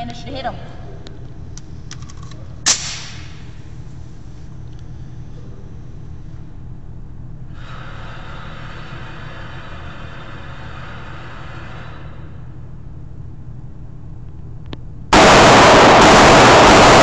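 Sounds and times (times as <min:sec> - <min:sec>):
low rumble of indoor background: 0:00.0 - 0:17.0.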